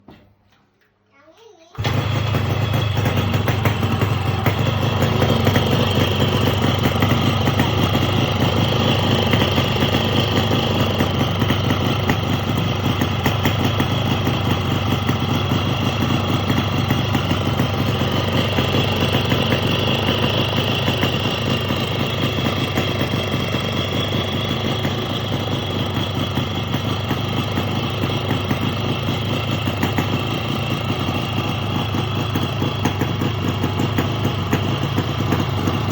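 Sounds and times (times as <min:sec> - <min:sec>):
motorcycle engine idling: 0:01.8 - 0:35.9.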